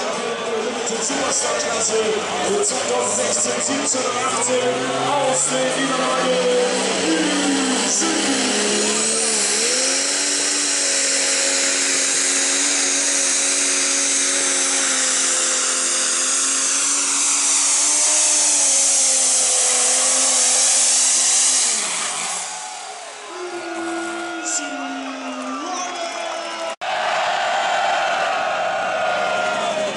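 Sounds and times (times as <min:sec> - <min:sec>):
tractor diesel engine roaring: 0:00.0 - 0:25.1
high whine: 0:00.0 - 0:26.5.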